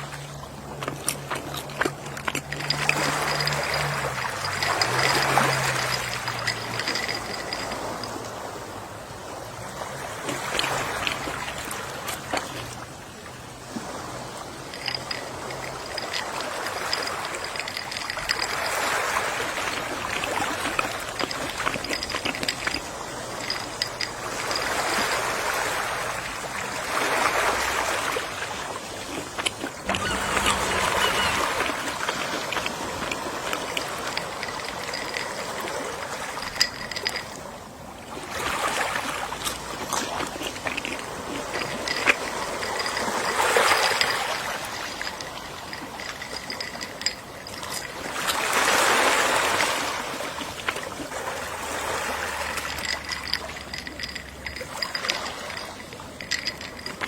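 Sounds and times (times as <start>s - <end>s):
gentle sea waves washing ashore: 0.0s - 57.0s.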